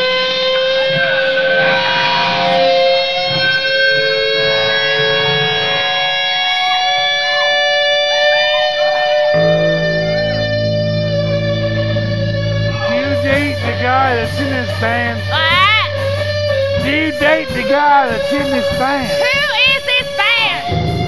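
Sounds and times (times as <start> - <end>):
bass notes: 0.0 - 21.0
electric guitar sustained note: 0.0 - 21.0.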